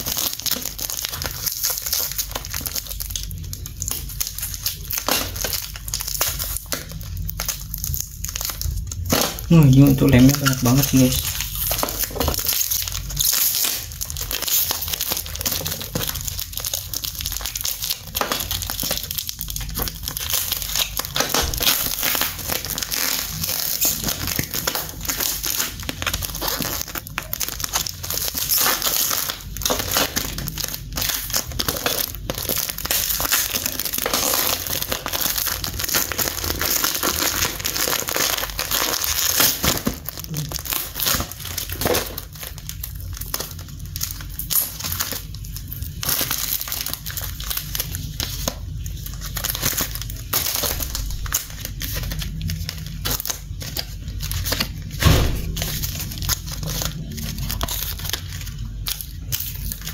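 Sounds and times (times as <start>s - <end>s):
cardboard ripping and crackling: 0.0s - 59.9s
packaging crinkling: 0.0s - 59.9s.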